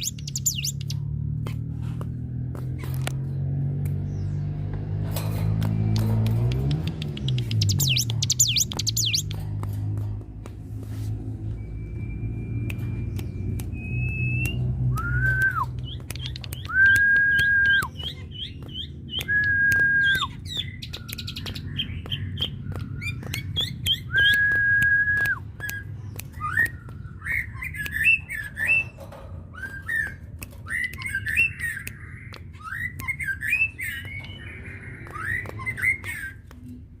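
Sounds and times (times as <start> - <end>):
songbird singing: 0.0 - 10.4, 11.1 - 36.9.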